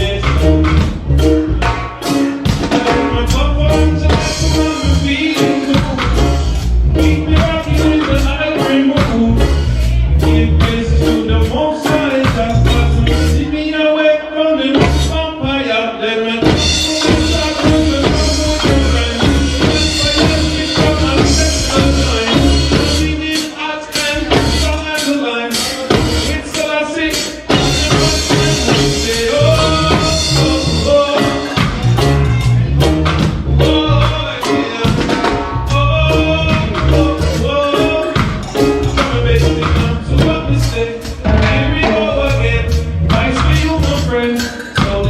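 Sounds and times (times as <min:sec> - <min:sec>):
drum kit beat: 0:00.0 - 0:13.9, 0:14.6 - 0:15.7, 0:16.4 - 0:45.0
deep bass line: 0:00.0 - 0:14.0, 0:14.6 - 0:15.8, 0:16.4 - 0:45.0
person singing: 0:00.0 - 0:45.0
reggae band playing: 0:00.0 - 0:45.0.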